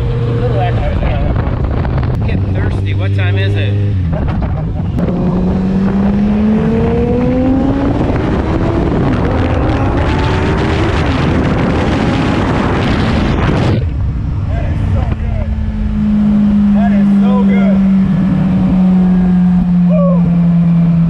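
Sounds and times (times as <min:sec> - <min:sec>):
engine accelerating: 0:00.0 - 0:21.0
wind and road rush: 0:00.0 - 0:21.0.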